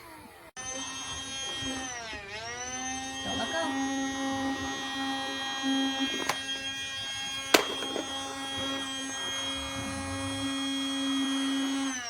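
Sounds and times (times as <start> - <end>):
toy vacuum motor humming: 0.6 - 12.0.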